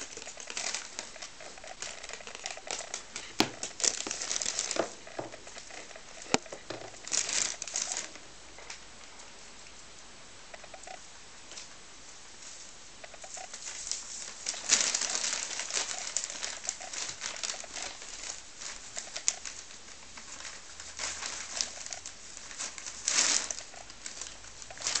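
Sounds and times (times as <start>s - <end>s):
dry hay rustling: 0.0s - 8.2s, 12.4s - 25.0s
plastic bag crinkling: 0.0s - 8.8s, 13.2s - 25.0s.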